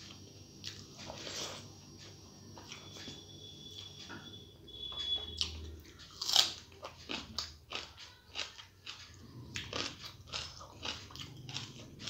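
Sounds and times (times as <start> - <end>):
chewing and crunching food: 0.0 - 4.1, 4.7 - 12.0.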